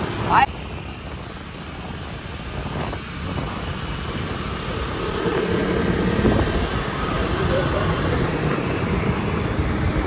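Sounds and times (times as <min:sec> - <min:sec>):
moving vehicle: 0:00.0 - 0:10.0
road traffic rumble: 0:00.0 - 0:10.0.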